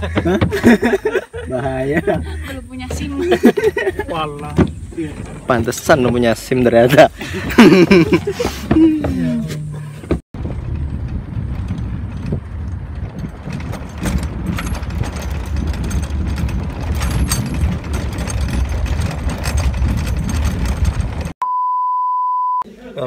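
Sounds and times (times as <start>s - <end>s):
vehicle low rumble: 0.0s - 21.4s.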